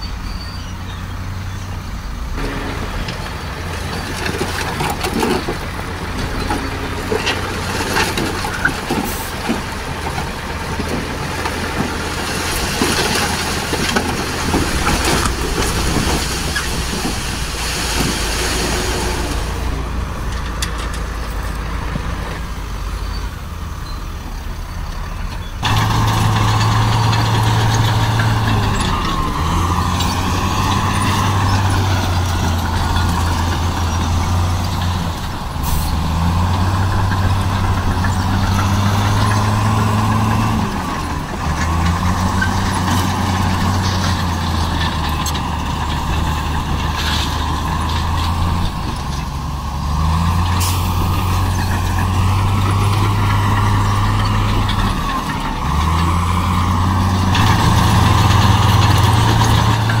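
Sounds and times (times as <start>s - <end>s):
heavy diesel engine running: 0.0s - 60.0s.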